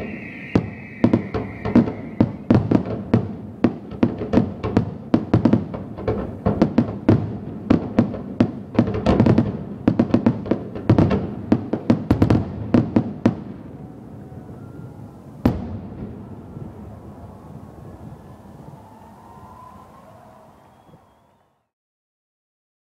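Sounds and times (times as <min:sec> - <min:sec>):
fireworks bursting: 0:00.0 - 0:21.4.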